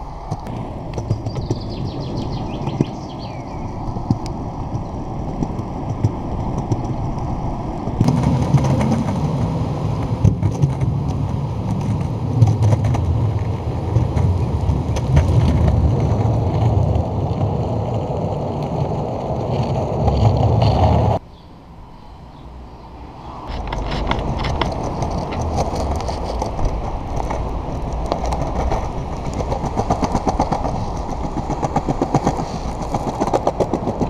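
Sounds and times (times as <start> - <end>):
skateboard wheels rolling: 0.0 - 21.2, 23.1 - 34.0
skateboard clicks: 0.2 - 3.0, 4.0 - 21.2, 23.5 - 34.0.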